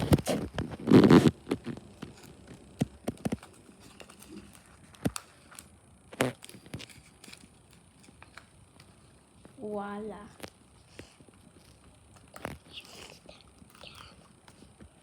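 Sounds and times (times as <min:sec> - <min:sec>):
paper and tape rustling: 0:00.0 - 0:09.7, 0:10.4 - 0:15.0.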